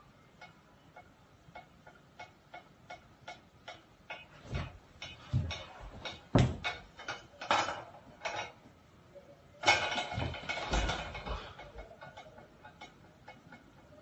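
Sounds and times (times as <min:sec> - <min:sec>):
pedestal fan rattling clatter: 0:00.4 - 0:08.7, 0:09.6 - 0:14.0.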